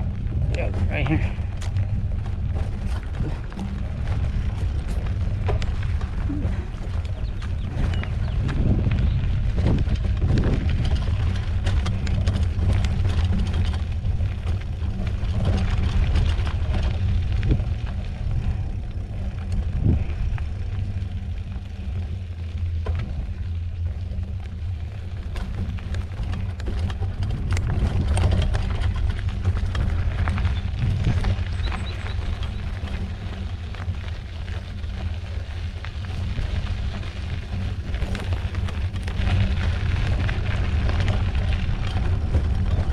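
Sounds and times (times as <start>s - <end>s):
bike rattling and knocking: 0.0s - 42.9s
wind and rolling tyres rumble: 0.0s - 42.9s.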